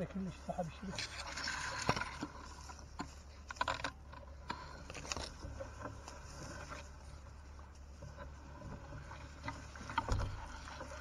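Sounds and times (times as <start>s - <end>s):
wet net hauled over boat side: 0.0s - 11.0s.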